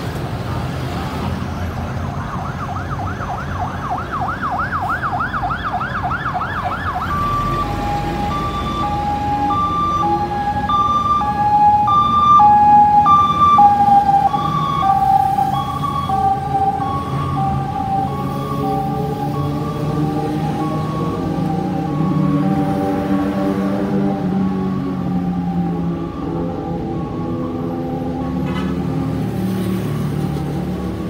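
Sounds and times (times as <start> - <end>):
road traffic: 0.0 - 31.0
ambulance siren: 1.4 - 31.0.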